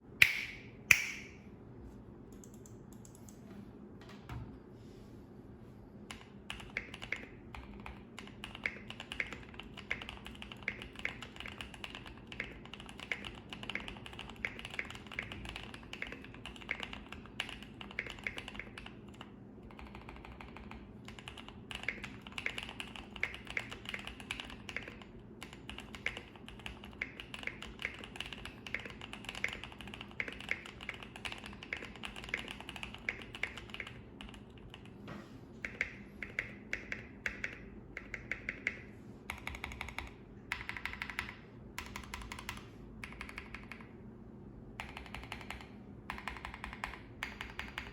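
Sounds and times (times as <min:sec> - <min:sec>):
mechanical keyboard typing: 0:02.3 - 0:03.4, 0:06.1 - 0:35.0, 0:35.6 - 0:44.0, 0:44.8 - 0:47.9.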